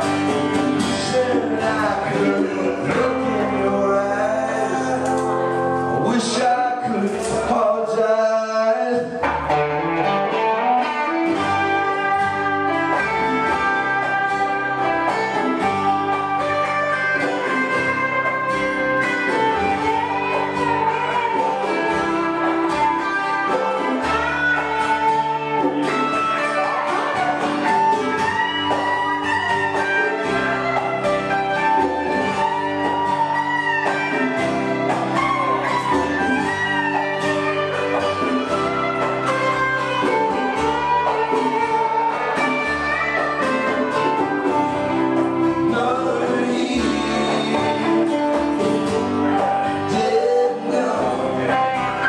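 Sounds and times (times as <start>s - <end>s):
acoustic guitar: 0.0s - 52.0s
electric guitar lead with bent notes: 0.0s - 52.0s.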